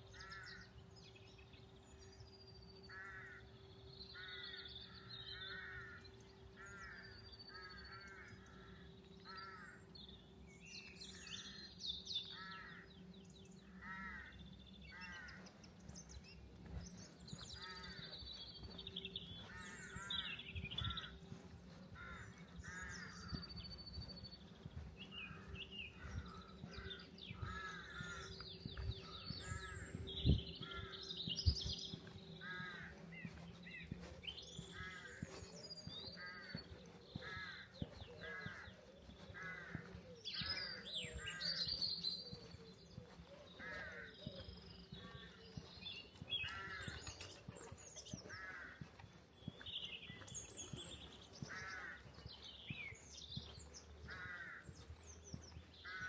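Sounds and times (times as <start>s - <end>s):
small birds chirping: 0.0s - 56.0s
crows cawing: 0.1s - 0.7s, 2.9s - 10.0s, 11.1s - 16.3s, 16.9s - 56.0s.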